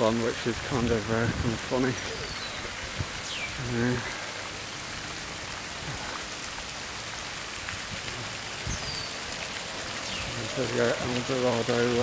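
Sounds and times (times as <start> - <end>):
fountain jets splashing into pool: 0.0 - 12.0.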